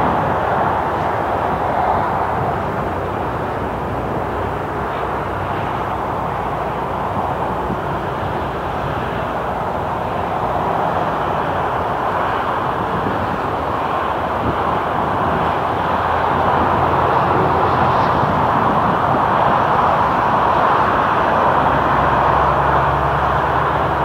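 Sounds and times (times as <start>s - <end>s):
jet engine noise: 0.0s - 24.0s.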